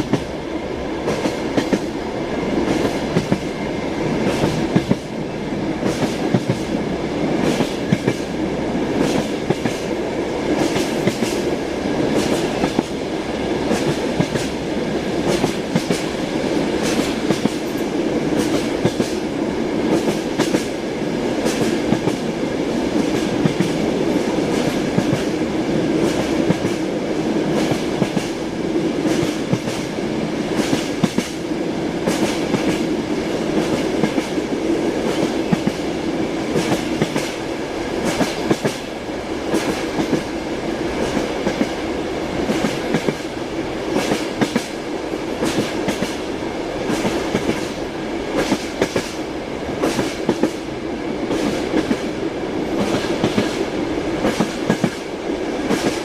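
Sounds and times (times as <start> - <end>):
railway carriage rumble: 0.0 - 56.0
train wheels clickety-clack: 0.0 - 56.0.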